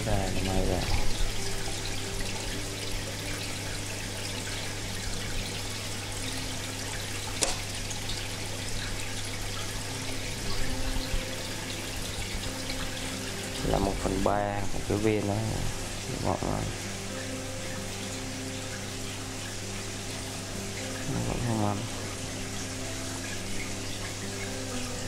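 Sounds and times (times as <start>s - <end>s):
aquarium water trickling: 0.0s - 25.0s.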